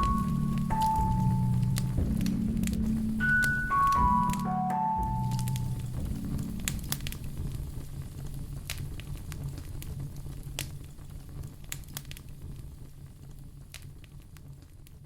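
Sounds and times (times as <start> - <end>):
wood fire crackling and popping: 0.0 - 3.6, 5.3 - 15.0
low steady rumble: 0.0 - 15.0.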